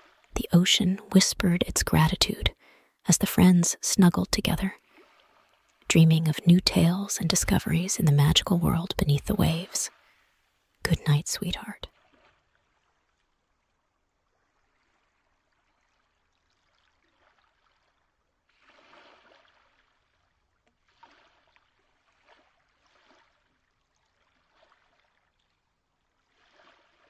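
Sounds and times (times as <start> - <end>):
faint trickling water: 0.0 - 27.0.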